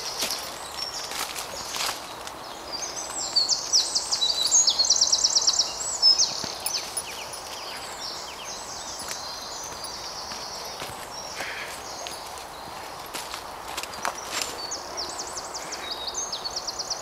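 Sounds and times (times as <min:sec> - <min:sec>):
songbird singing with trill: 0:00.0 - 0:13.1, 0:13.9 - 0:17.0.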